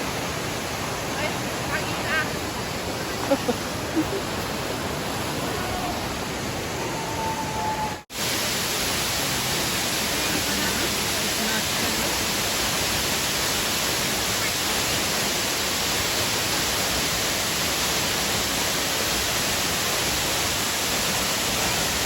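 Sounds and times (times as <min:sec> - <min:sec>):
waterfall pouring and crashing: 0:00.0 - 0:22.0.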